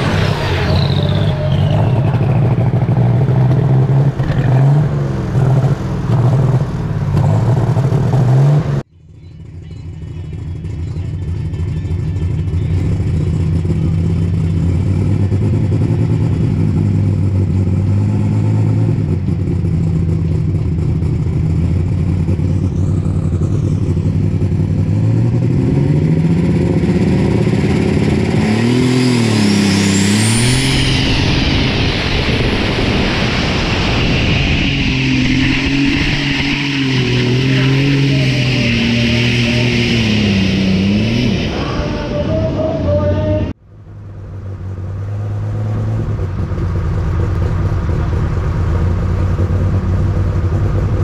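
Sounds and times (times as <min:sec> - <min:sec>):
diesel engine revving: 0:00.0 - 0:51.0
high turbo whine: 0:00.0 - 0:51.0.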